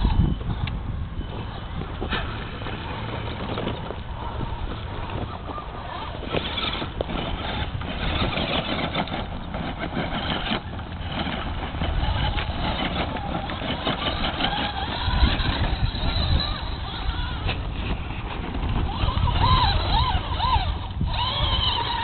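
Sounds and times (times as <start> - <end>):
low motor rumble: 0.0 - 22.0
tyres crunching gravel: 1.2 - 22.0.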